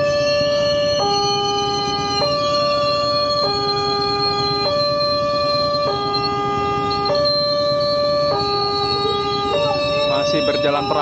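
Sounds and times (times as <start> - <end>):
two-tone level-crossing alarm: 0.0 - 11.0.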